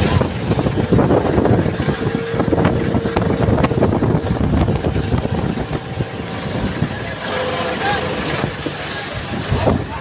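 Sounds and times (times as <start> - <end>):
boat engine humming: 0.0 - 10.0
wind buffeting microphone: 0.0 - 10.0.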